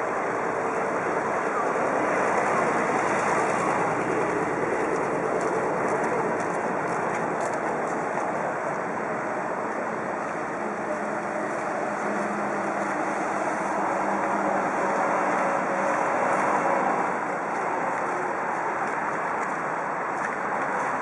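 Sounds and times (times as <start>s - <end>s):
city traffic hum: 0.0s - 21.0s
faint engine hum: 0.0s - 21.0s.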